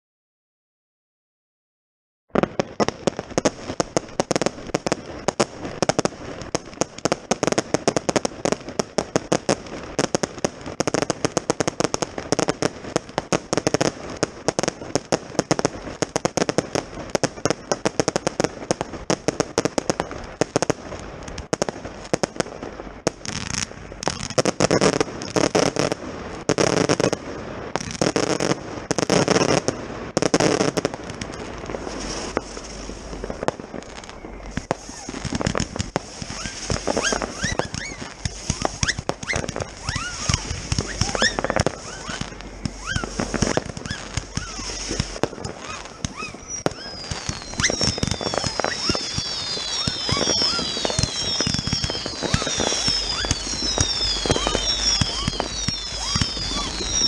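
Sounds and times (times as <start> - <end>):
fireworks cracking and banging: 2.3 - 57.0
loud firework shots: 2.3 - 57.0.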